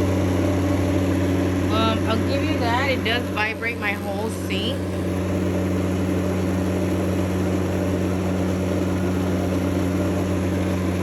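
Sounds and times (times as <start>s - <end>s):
washing machine low hum: 0.0s - 11.0s.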